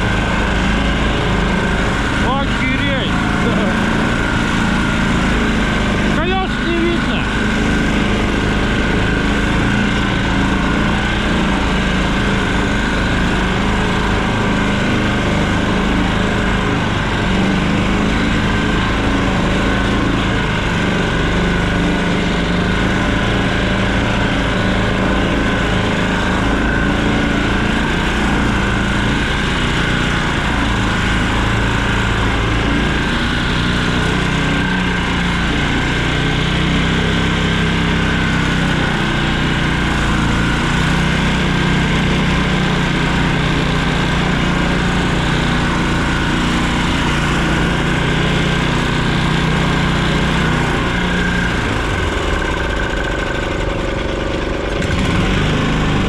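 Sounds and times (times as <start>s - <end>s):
engine running loudly: 0.0s - 56.0s.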